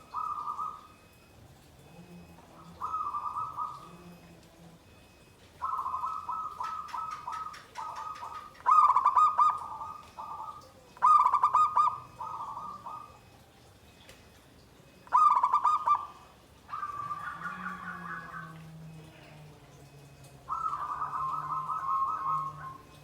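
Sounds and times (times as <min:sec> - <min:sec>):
dove trilled cooing: 0:00.0 - 0:13.6, 0:14.9 - 0:23.0.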